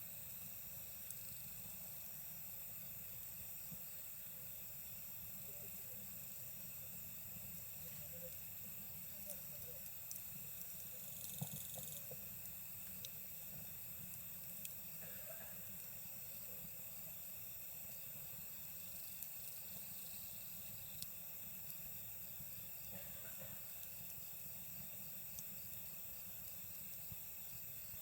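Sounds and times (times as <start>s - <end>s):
insect rapid trill: 0.0s - 13.5s, 14.2s - 28.0s
campfire crackling and popping: 0.0s - 28.0s
night insects chorus: 0.0s - 28.0s.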